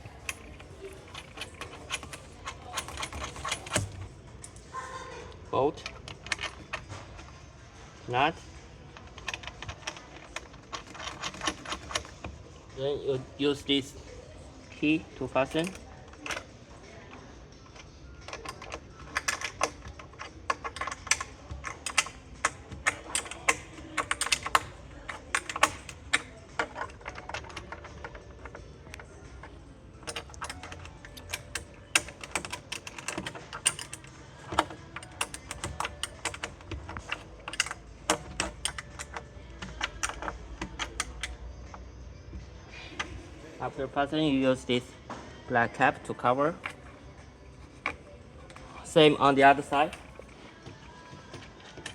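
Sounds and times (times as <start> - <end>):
allen key clicking on bolt: 0.0 - 4.7, 5.8 - 7.4, 9.0 - 12.4, 15.3 - 43.2, 47.7 - 51.9.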